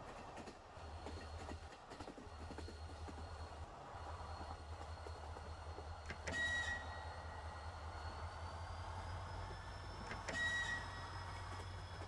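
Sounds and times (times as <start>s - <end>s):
electric train rumble and whine: 0.0s - 12.0s.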